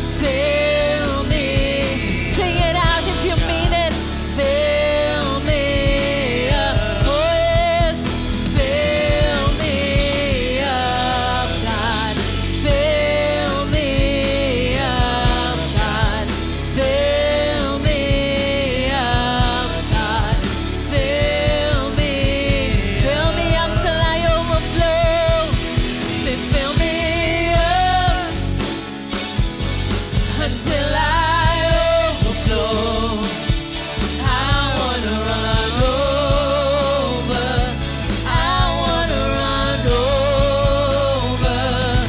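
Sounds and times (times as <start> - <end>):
worship band playing: 0.0 - 42.0.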